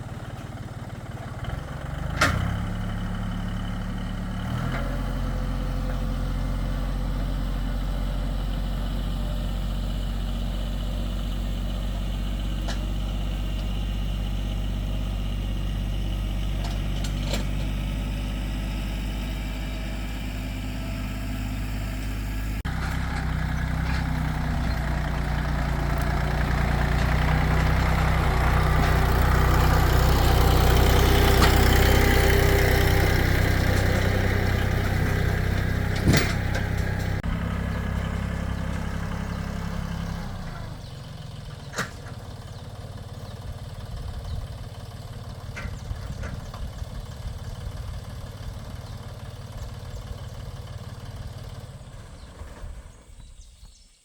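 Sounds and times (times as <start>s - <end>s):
tractor engine running: 0.0s - 53.4s.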